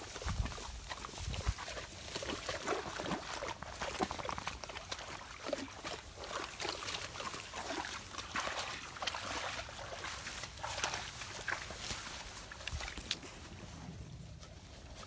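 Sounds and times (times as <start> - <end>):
paws splashing in water: 0.0 - 15.0
wet grass rustling: 0.0 - 15.0.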